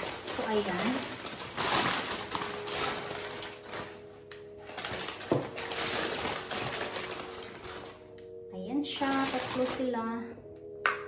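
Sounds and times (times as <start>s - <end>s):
packing paper rustling and crinkling: 0.0s - 10.0s.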